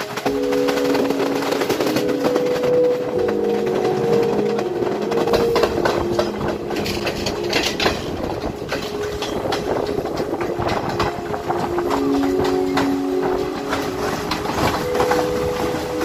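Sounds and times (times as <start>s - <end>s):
train rumbling: 0.0s - 16.0s
wheels clattering over rail joints: 0.0s - 16.0s.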